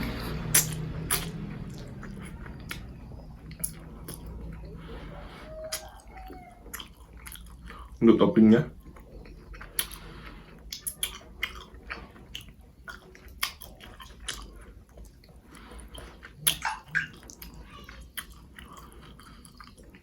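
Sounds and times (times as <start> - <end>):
chewing and wet mouth smacks: 0.1 - 5.0, 5.6 - 8.0, 8.8 - 20.0.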